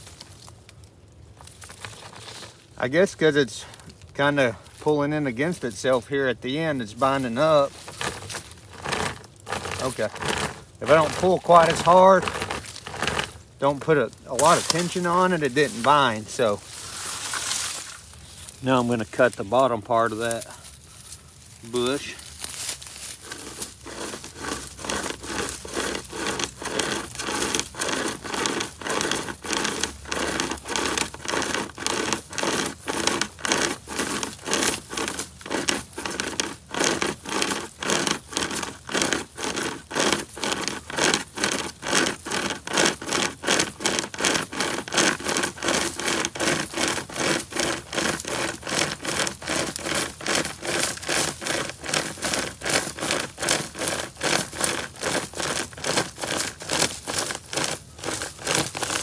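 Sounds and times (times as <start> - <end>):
pocket chainsaw rasping through stems: 1.3 - 59.0.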